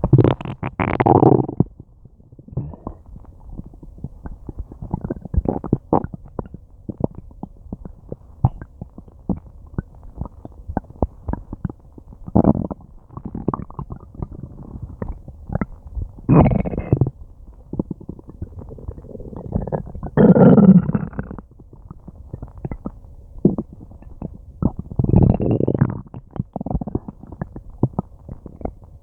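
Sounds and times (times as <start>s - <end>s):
stomach gurgling: 0.0s - 29.0s.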